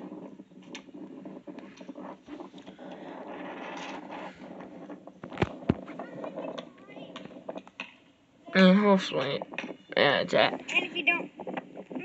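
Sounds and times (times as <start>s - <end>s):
hand rustling on tablet: 0.0s - 7.8s, 8.6s - 12.0s.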